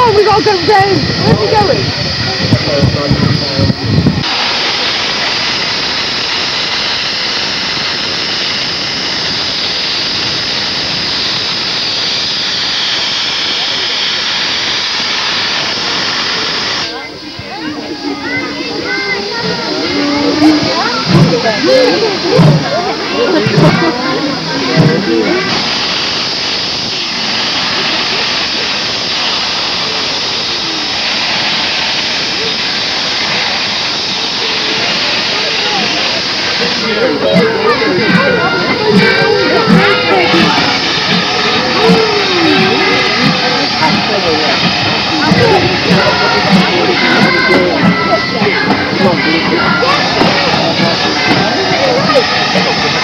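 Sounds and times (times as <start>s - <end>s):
steam locomotive hissing steam: 0.0s - 53.0s.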